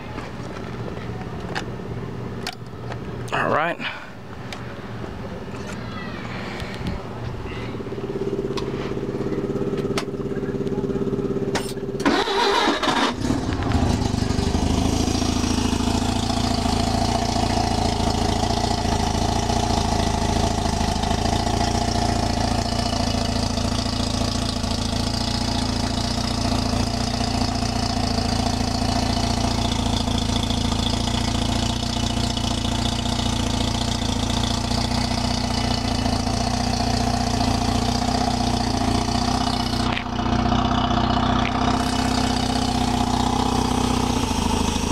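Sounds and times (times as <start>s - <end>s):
rotary engine starting and idling: 8.2s - 44.9s.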